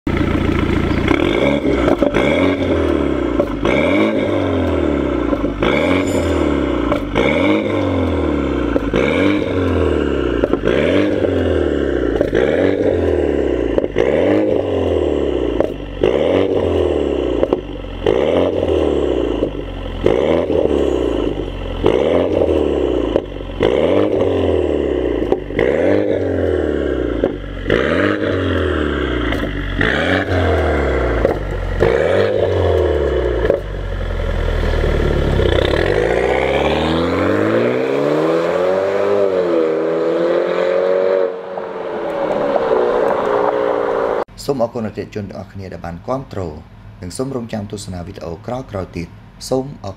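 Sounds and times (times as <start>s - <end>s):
car engine revving: 0.1s - 44.3s.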